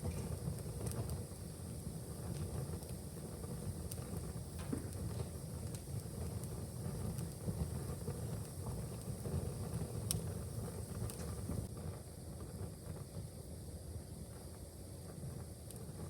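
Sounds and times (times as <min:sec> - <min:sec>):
fire crackling: 0:00.0 - 0:16.0
wood fire low rumble: 0:00.0 - 0:16.0.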